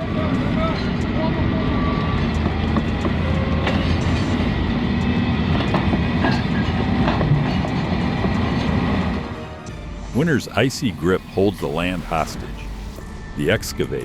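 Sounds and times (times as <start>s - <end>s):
heavy machinery rumbling: 0.0s - 13.4s.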